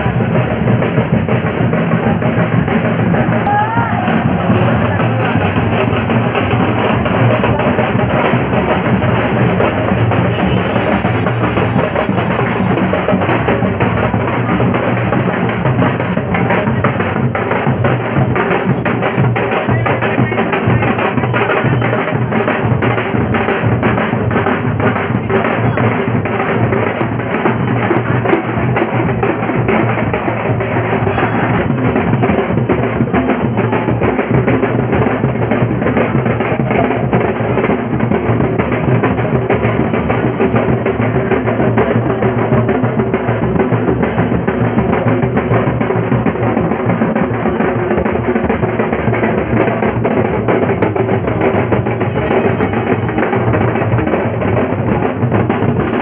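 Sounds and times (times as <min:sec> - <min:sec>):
fast loud drumming: 0:00.0 - 0:56.0.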